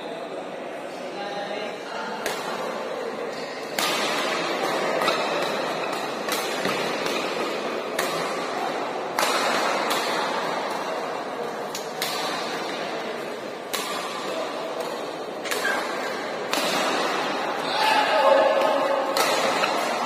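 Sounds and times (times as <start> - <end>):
rackets hitting shuttlecock: 3.3 - 20.0.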